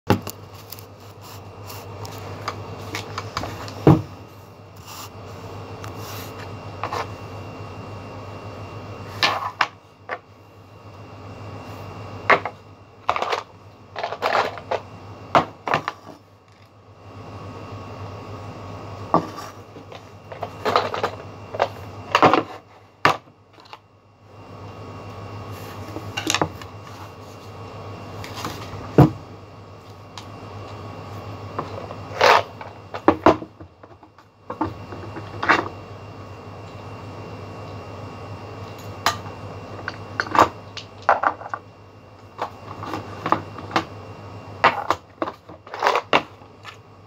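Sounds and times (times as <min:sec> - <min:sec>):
steady low hum: 0:00.1 - 0:47.0.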